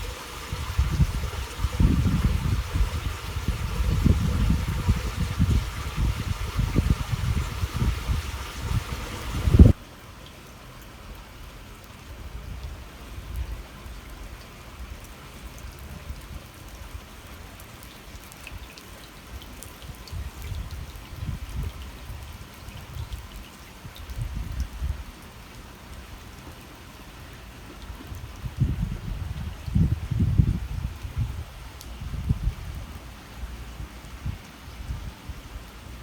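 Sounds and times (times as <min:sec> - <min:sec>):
water splashing in a channel: 0:00.0 - 0:12.0, 0:12.6 - 0:36.0.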